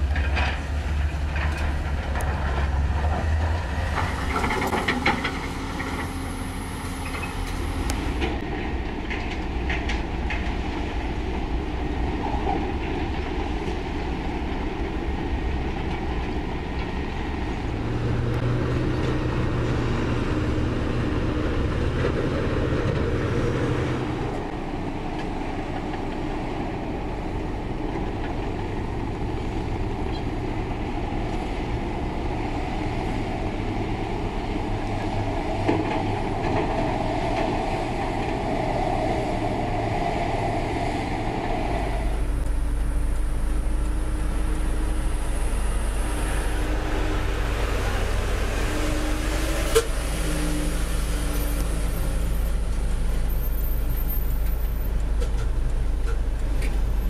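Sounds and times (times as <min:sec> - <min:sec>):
steel tracks clattering: 0:00.0 - 0:19.8, 0:20.5 - 0:57.0
heavy diesel machinery running: 0:00.0 - 0:57.0.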